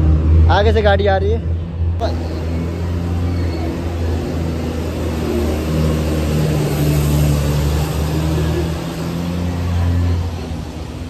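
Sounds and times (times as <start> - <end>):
vehicle engine humming in tunnel: 0.0 - 11.0.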